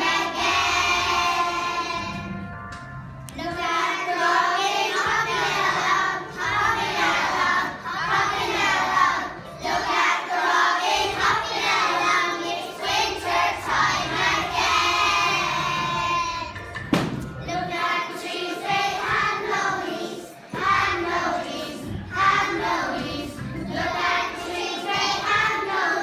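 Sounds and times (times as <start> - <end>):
young children singing: 0.0 - 2.4, 3.3 - 16.8, 17.4 - 26.0.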